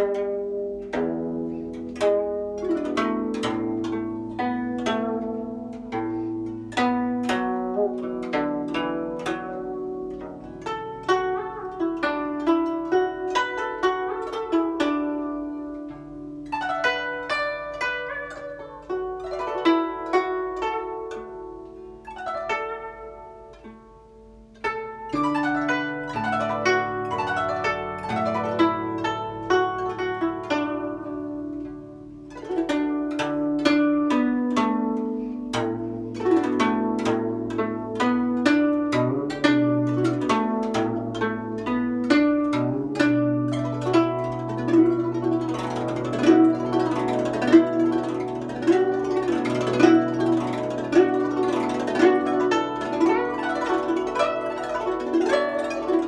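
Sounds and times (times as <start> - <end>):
plucked zither melody: 0.0 - 56.0.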